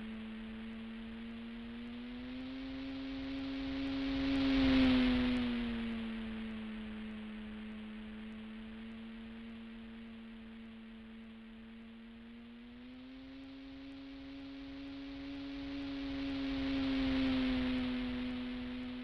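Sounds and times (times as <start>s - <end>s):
model plane motor droning: 0.0s - 19.0s.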